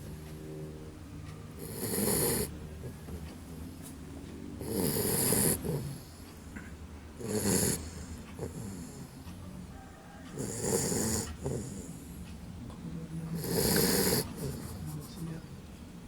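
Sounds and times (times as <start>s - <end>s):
puppy breathing: 0.0s - 9.4s, 10.1s - 12.5s, 13.3s - 15.5s
puppy snoring: 0.0s - 9.4s, 10.2s - 12.2s, 13.3s - 15.4s.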